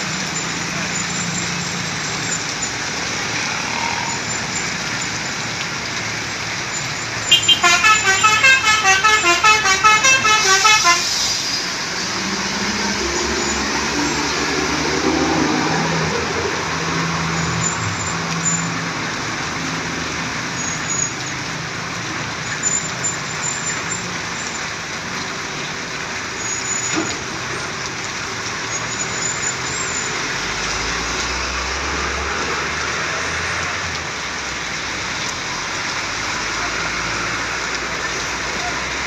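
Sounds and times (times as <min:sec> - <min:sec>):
heavy vehicle rumble: 0:00.0 - 0:39.0
traffic engine and tyre noise: 0:00.0 - 0:39.0.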